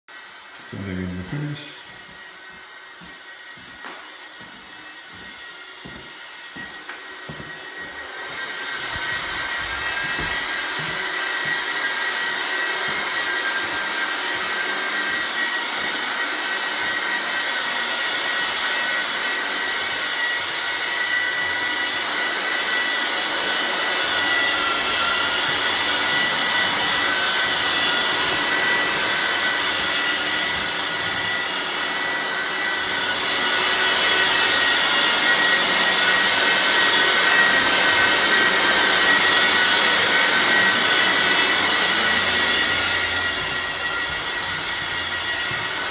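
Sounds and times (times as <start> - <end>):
floor sanding machine whine: 0.1 - 45.9.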